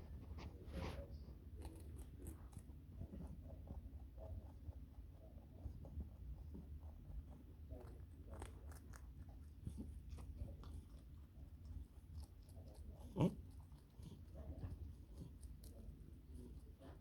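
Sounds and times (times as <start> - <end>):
small pet crunching food: 0.0 - 17.0.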